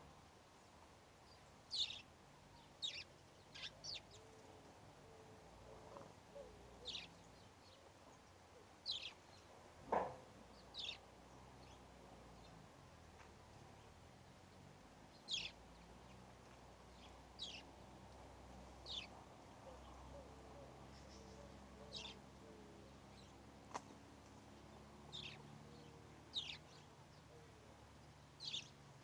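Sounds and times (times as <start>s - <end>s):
birds chirping: 1.3s - 4.5s, 5.2s - 12.6s, 13.2s - 28.9s.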